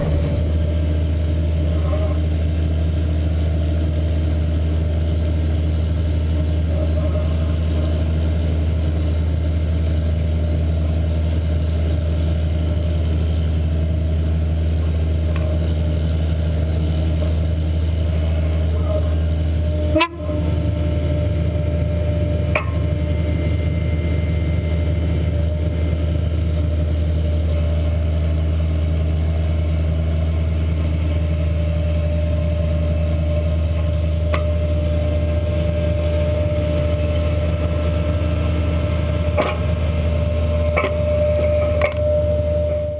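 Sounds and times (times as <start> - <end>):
tractor engine under load: 0.0 - 42.9.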